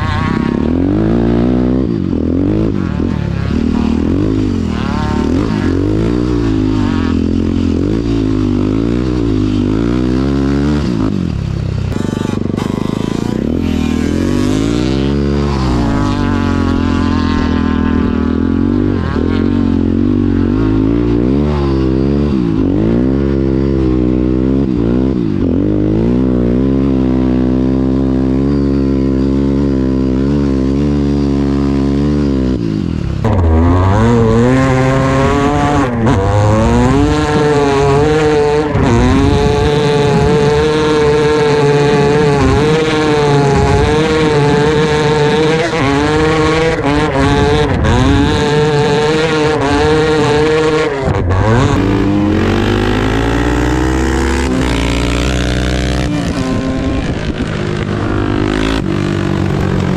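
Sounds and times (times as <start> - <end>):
loud motorcycle engine high revs: 0.0 - 59.9
motorcycle engine revving: 0.0 - 59.9.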